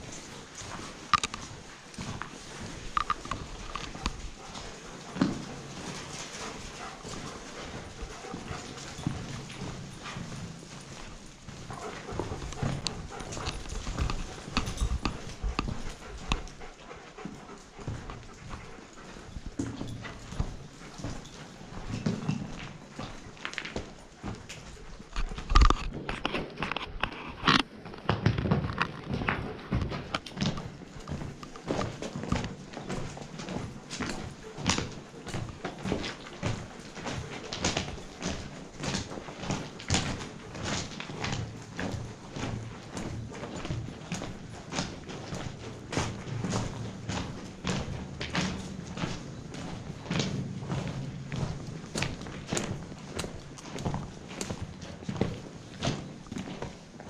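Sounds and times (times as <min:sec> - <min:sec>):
footsteps on stone and debris: 0:00.0 - 0:16.6, 0:21.9 - 0:57.0.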